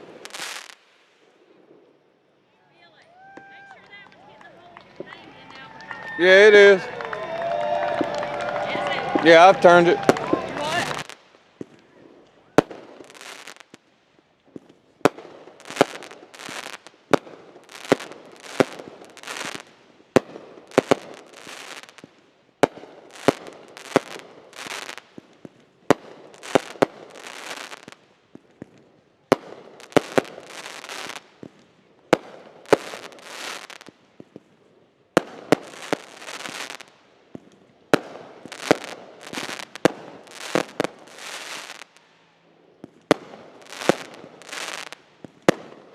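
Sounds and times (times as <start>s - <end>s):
fireworks banging: 0.0s - 2.0s, 3.2s - 45.9s
fireworks crackling hiss: 0.0s - 45.9s.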